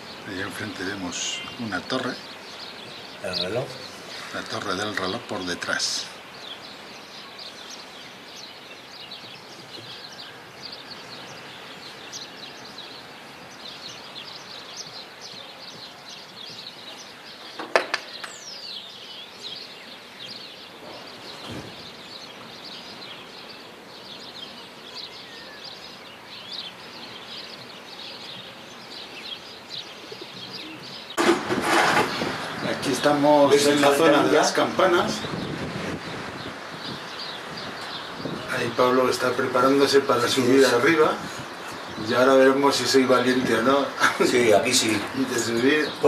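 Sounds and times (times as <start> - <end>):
small birds chirping: 0.0 - 46.0
steady outdoor hiss: 0.0 - 46.0.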